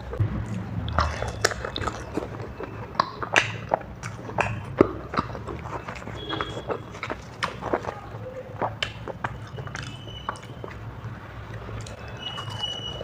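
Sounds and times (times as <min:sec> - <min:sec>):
wet chewing and mouth smacks: 0:00.0 - 0:13.0.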